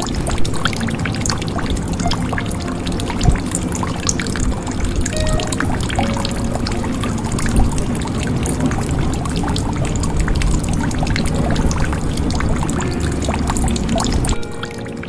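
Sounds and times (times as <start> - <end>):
water pouring into a jug: 0.0 - 15.0.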